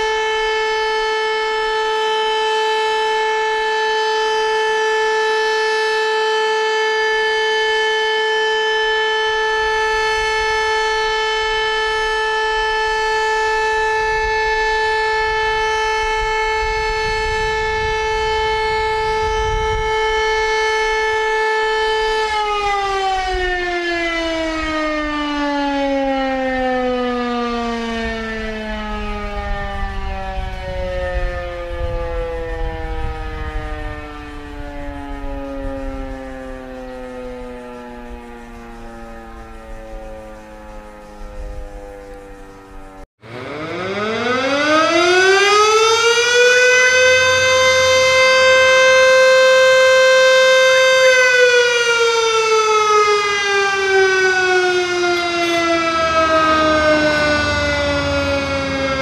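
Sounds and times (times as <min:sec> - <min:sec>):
civil defense siren wailing: 0:00.0 - 0:59.0.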